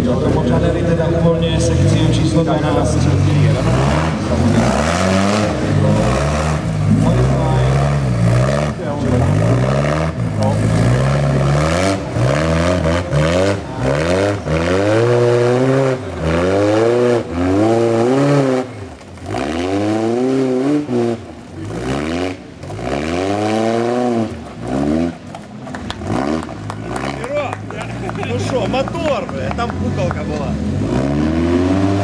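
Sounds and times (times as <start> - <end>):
buggy engine revving: 0.0 - 32.0.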